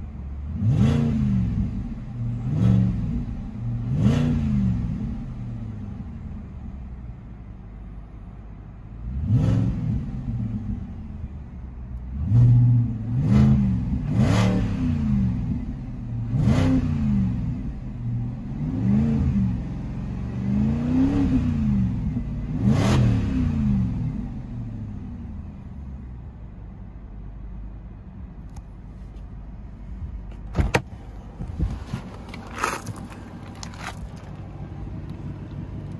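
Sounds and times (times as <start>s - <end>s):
car engine revving and idling: 0.0s - 35.9s.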